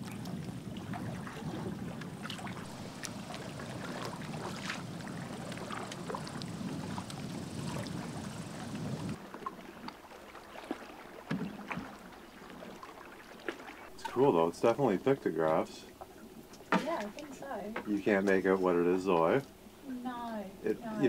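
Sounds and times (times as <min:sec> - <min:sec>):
water splashes and drips: 0:00.0 - 0:19.6
small waves lapping against canoe: 0:00.0 - 0:21.0.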